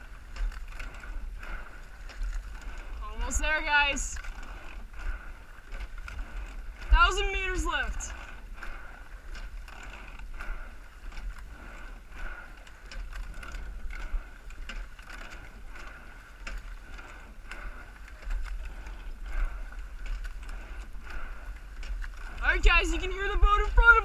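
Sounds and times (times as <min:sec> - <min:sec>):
oars knocking in oarlocks: 0:00.0 - 0:24.0
water rushing along hull: 0:00.0 - 0:24.0.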